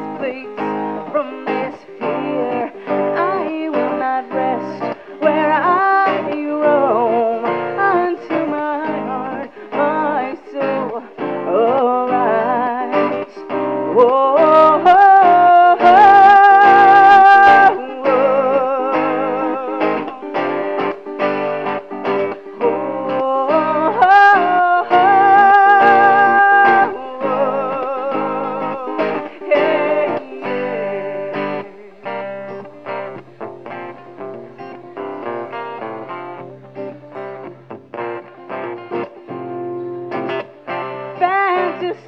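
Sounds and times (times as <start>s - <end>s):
woman singing: 0.0s - 37.6s, 38.4s - 42.0s
acoustic guitar playing: 0.0s - 42.0s.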